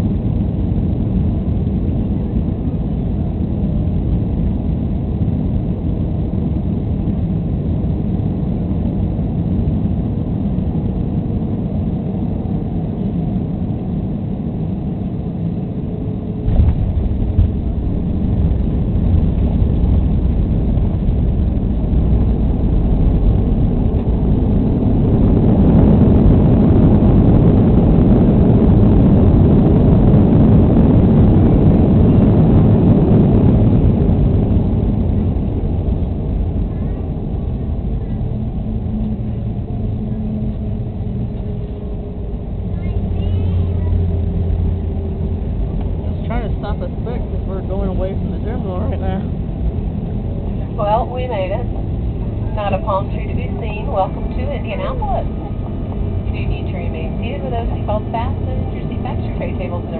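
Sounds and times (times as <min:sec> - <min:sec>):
airplane cabin engine rush: 0:00.0 - 0:59.9
jet engines in reverse thrust: 0:00.0 - 0:59.9.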